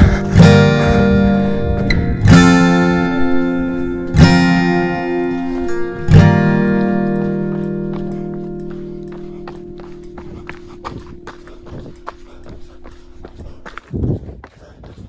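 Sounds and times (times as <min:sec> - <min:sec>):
acoustic guitar strumming chords: 0:00.0 - 0:13.4.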